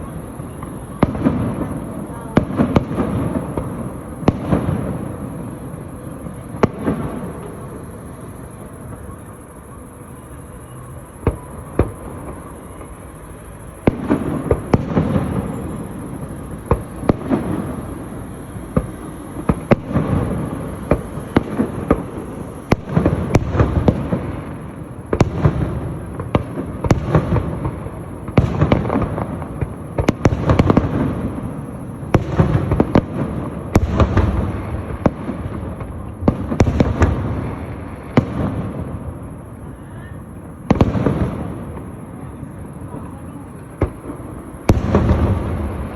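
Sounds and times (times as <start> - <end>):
fireworks bangs and booms: 0.0 - 45.9.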